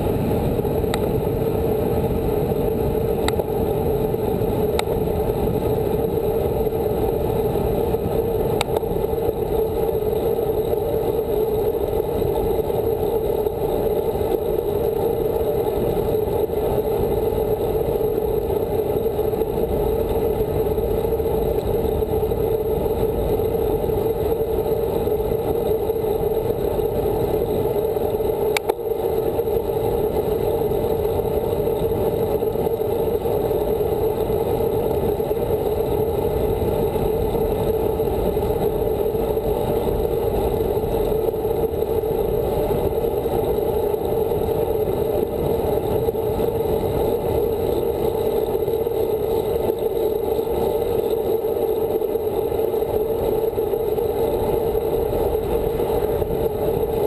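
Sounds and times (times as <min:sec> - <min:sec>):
bike tyres rolling on asphalt: 0:00.0 - 0:57.0.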